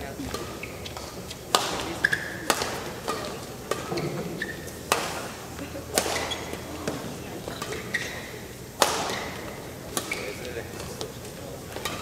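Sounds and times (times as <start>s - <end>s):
shoes squeaking on court: 0.0s - 12.0s
rackets hitting shuttlecock: 0.2s - 12.0s.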